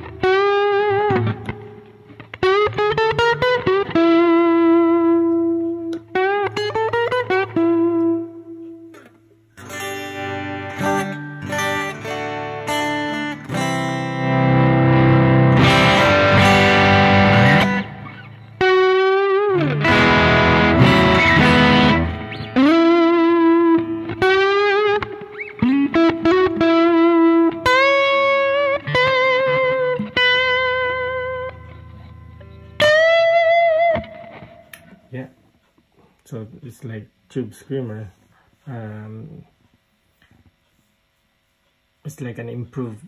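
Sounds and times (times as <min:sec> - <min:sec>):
overdriven electric guitar: 0:00.0 - 0:35.2.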